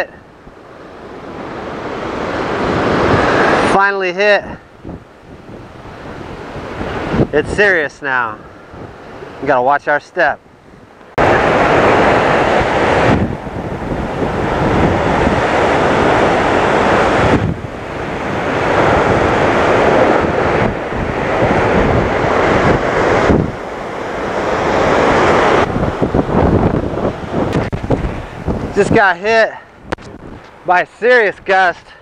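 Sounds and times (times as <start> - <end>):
wind gusts buffeting microphone: 0.0 - 32.0.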